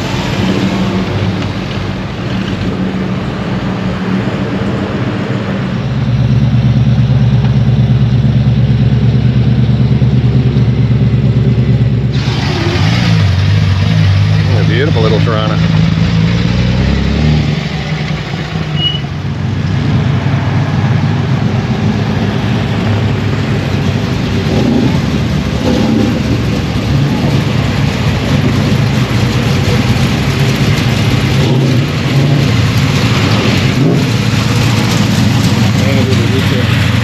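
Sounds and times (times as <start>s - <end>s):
noisy wash: 0.0s - 8.6s, 11.2s - 37.0s
car engine idling: 4.6s - 16.9s, 17.7s - 37.0s.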